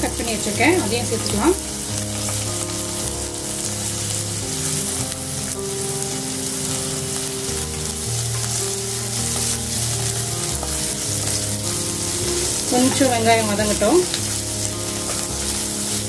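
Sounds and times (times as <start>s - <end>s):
onion sizzling in hot oil: 0.0s - 16.0s
wooden spatula stirring: 0.2s - 16.0s.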